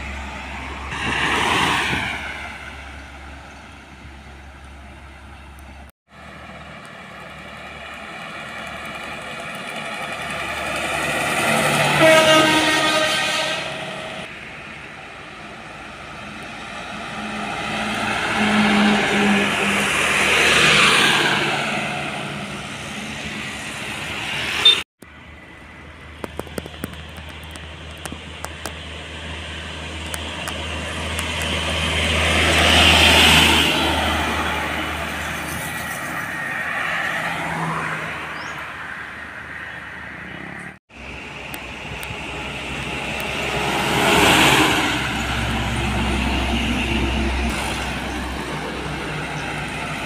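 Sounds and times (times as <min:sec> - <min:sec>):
trucks passing on road: 0:00.0 - 0:50.0.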